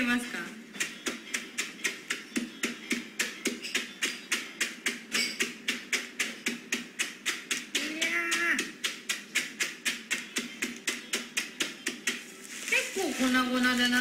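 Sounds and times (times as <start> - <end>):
stick pounding food in plastic bag: 0.8 - 14.0.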